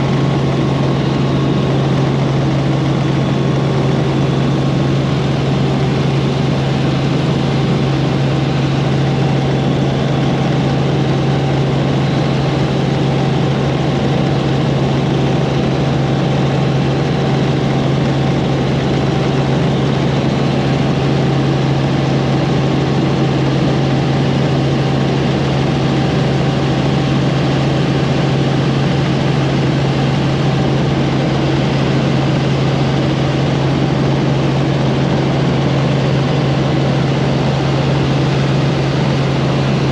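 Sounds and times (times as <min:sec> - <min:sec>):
helicopter engine and rotors drone: 0:00.0 - 0:39.9.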